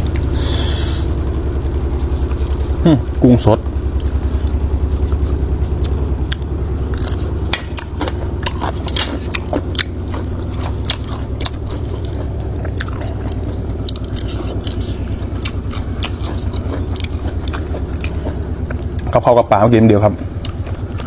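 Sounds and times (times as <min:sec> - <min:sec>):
chewing crunchy food: 0:00.0 - 0:21.0
low pulsing hum: 0:00.0 - 0:21.0.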